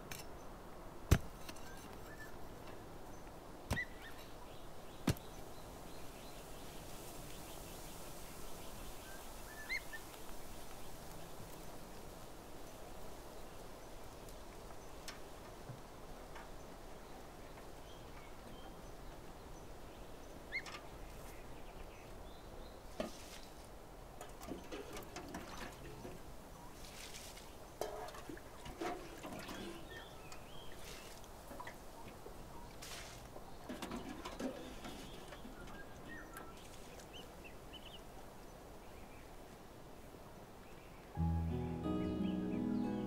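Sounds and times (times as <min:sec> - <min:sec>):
faint steady hiss: 0:00.0 - 0:43.0.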